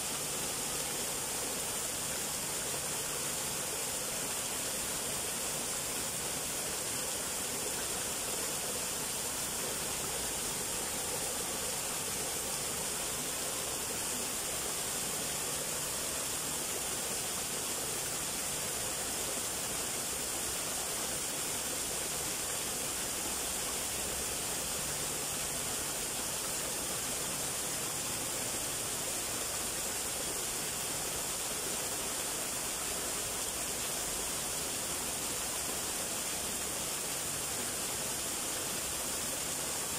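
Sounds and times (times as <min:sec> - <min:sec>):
small waterfall splashing into pool: 0:00.0 - 0:39.9.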